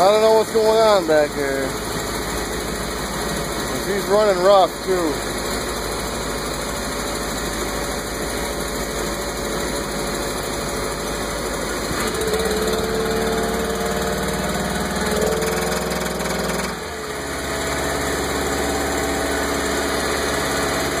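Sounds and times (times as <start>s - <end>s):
boat engine running rough: 0.0s - 21.0s.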